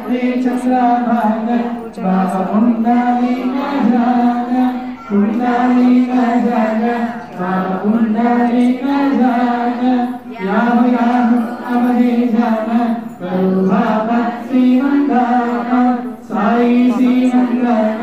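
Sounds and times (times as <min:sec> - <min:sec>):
devotional chant in held notes: 0:00.0 - 0:18.0.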